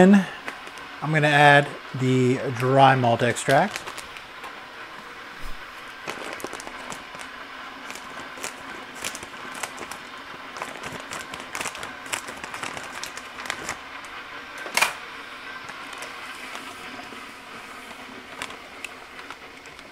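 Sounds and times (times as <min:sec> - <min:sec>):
plastic bag crinkling: 0:02.5 - 0:04.6, 0:05.4 - 0:19.9.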